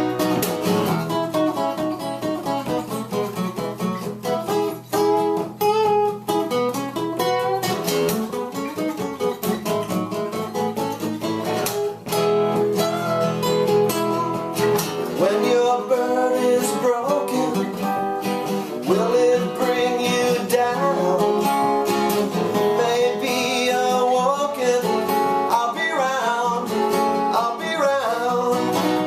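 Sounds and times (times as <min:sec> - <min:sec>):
acoustic guitar fast lead line: 0:00.0 - 0:29.0.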